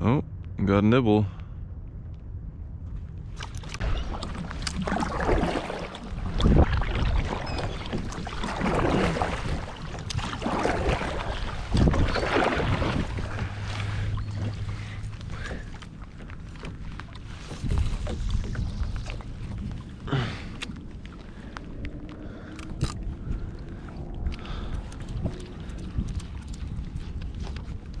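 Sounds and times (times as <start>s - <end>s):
water sloshing and splashing: 3.2s - 28.0s.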